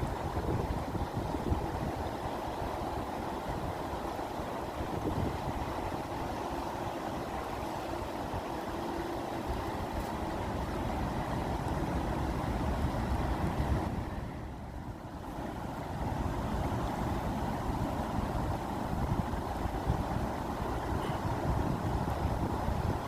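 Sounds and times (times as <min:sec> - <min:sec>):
moving water: 0:00.0 - 0:23.0.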